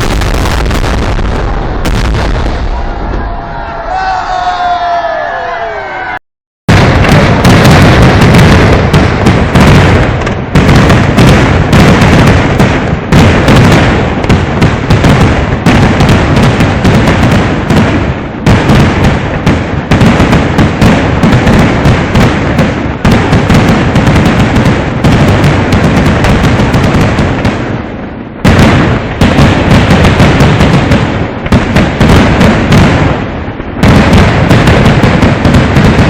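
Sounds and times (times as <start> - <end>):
fireworks exploding: 0.0 - 5.1, 6.7 - 36.0.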